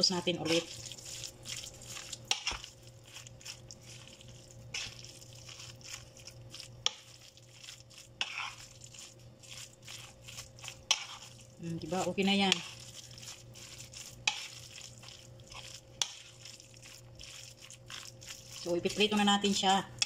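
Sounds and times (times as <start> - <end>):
faint steady hum: 0.0 - 20.0
fork stirring wet batter: 0.0 - 20.0.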